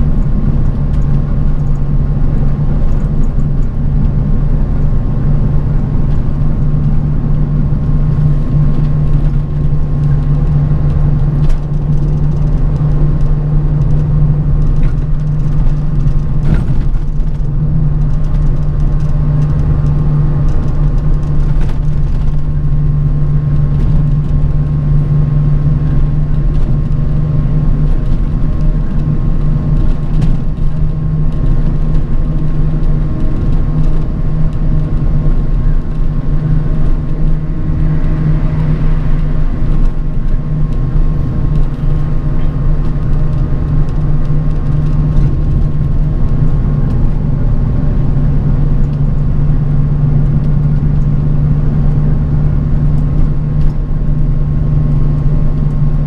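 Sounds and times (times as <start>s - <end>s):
bus engine and road rumble: 0.0s - 56.0s
light rattles and clicks: 0.0s - 56.0s.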